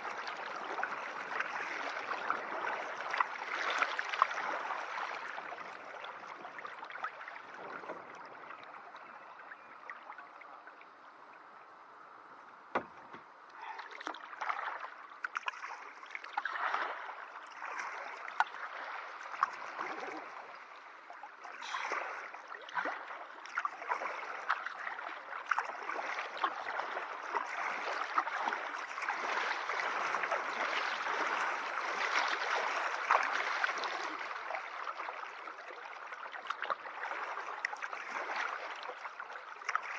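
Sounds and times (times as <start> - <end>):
water splashing along hull: 0.0 - 39.9.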